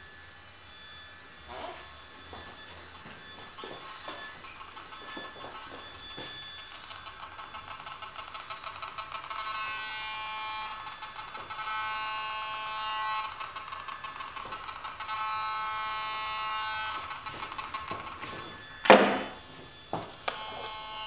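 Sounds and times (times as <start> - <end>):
electronic buzzing alert tone: 0.0 - 21.0.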